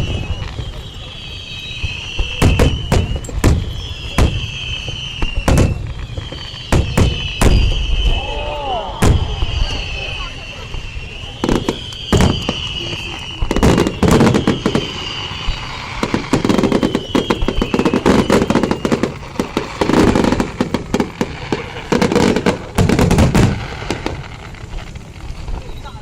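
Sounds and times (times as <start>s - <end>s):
fireworks crackling and banging: 0.0s - 26.0s
high firework whistles: 0.0s - 26.0s.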